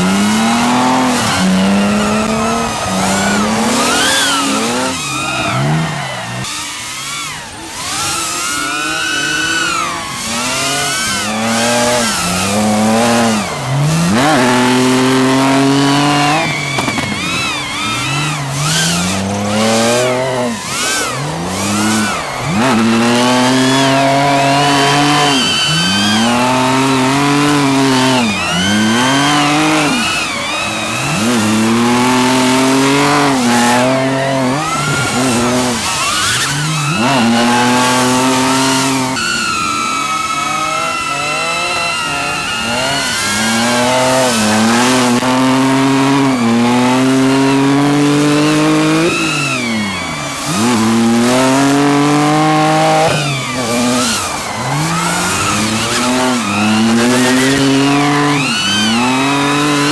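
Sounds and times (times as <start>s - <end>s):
car engine revving hard: 0.0s - 59.9s.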